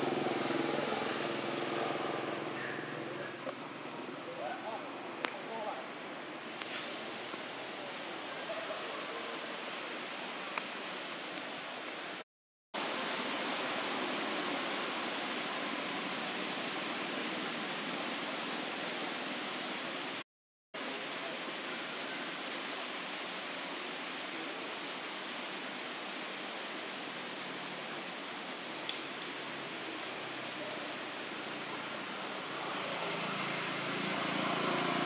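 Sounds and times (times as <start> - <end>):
steady outdoor hiss: 0.0 - 12.2, 12.8 - 20.2, 20.8 - 35.0.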